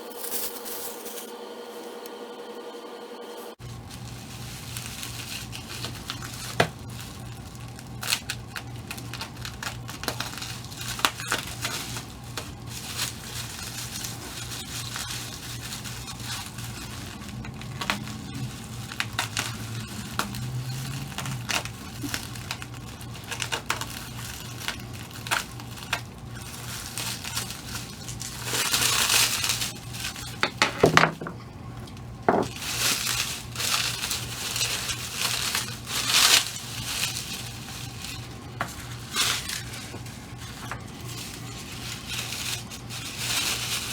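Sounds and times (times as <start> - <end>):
steady low hum: 0.0 - 43.9
packaging crinkling and rustling: 3.6 - 43.9.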